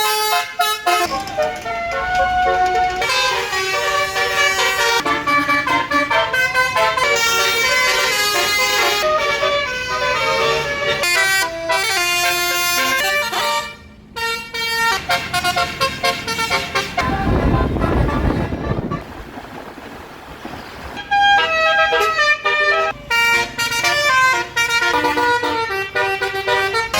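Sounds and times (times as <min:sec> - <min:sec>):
multi-tone bus horn melody: 0:00.0 - 0:19.2, 0:21.0 - 0:26.9.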